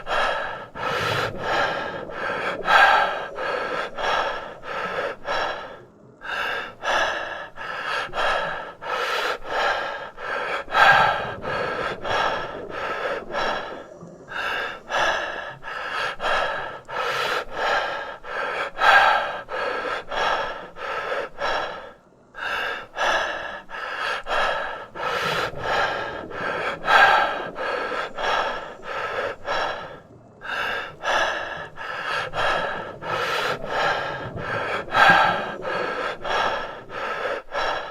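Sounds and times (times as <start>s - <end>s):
person breathing quickly: 0.0s - 37.9s.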